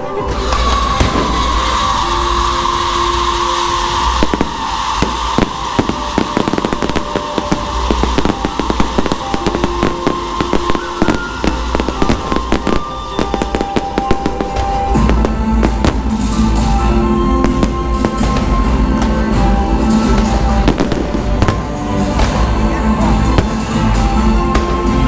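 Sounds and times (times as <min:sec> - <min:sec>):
fireworks popping and crackling: 0:00.4 - 0:02.0, 0:03.2 - 0:25.0.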